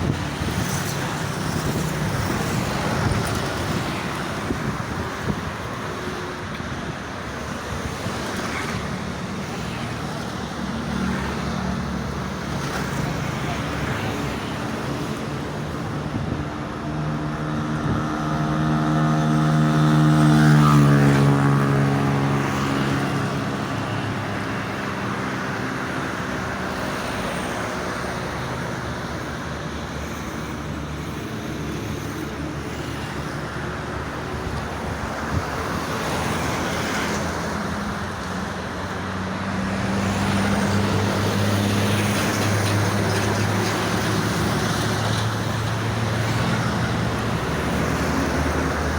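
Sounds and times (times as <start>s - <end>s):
road traffic: 0.0s - 48.9s.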